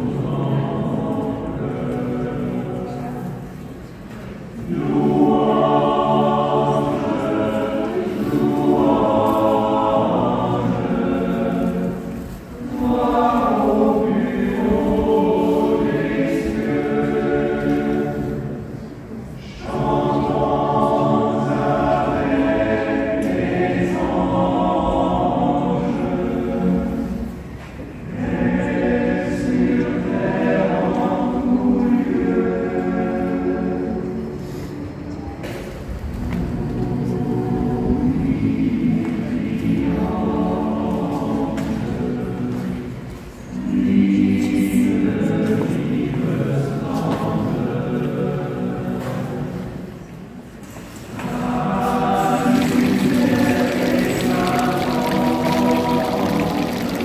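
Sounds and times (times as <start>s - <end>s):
choir singing: 0.0s - 3.9s, 4.5s - 34.7s, 36.2s - 57.0s.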